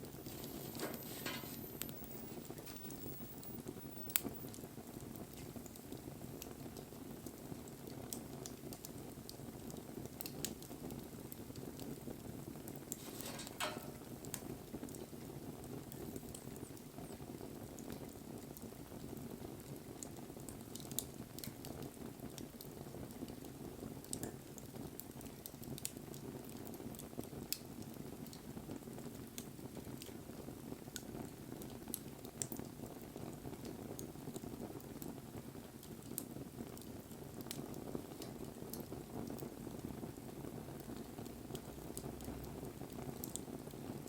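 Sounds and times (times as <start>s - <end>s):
bonfire crackling and popping: 0.0s - 44.0s.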